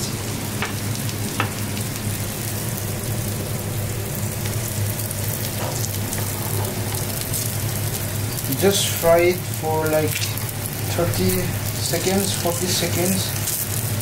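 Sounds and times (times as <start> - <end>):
batter sizzling in hot oil: 0.0 - 14.0
steady low hum: 0.0 - 14.0.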